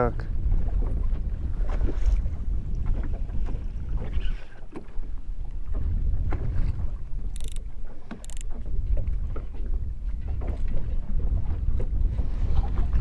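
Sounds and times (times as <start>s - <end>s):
water lapping at hull: 0.0s - 13.0s
wind rumbling on microphone: 0.0s - 13.0s.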